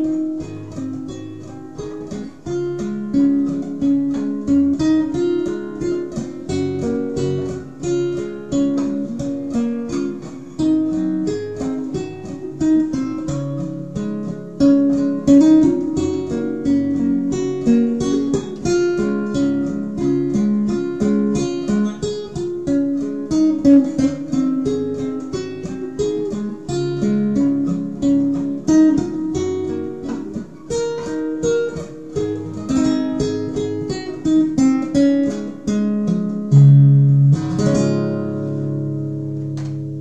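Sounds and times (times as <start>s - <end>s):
fingerstyle classical guitar: 0.0s - 40.0s.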